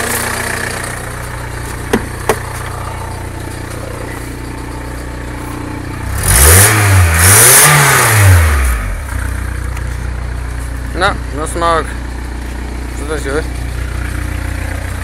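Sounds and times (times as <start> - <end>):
diesel engine idling: 0.0 - 15.0
engine revving: 0.0 - 15.0.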